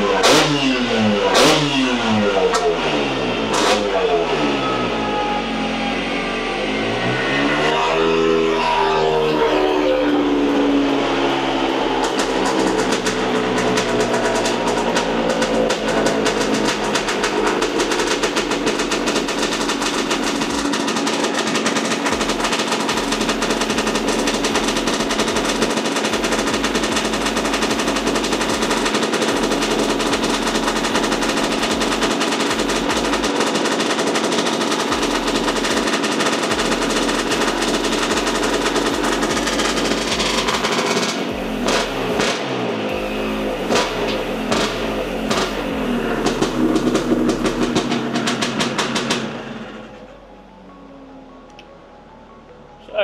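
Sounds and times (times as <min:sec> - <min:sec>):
two-stroke scooter engine idling: 0:00.0 - 0:50.2.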